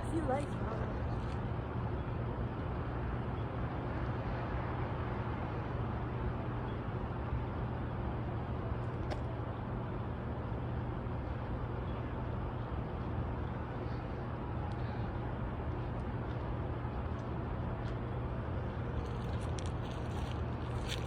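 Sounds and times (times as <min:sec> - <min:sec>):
outdoor background noise: 0:00.0 - 0:21.0
steady low hum: 0:00.0 - 0:21.0.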